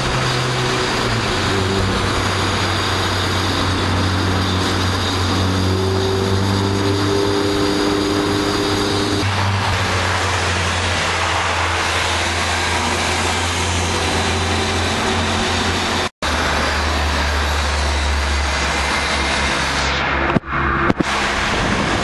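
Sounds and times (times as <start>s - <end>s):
car engine running: 0.0s - 22.0s
road and wind noise: 0.0s - 22.0s.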